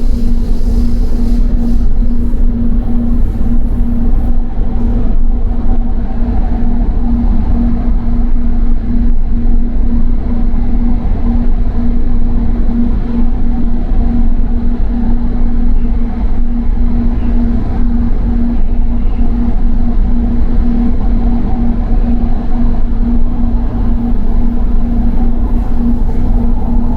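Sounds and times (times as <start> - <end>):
train rumbling inside carriage: 0.0 - 26.9.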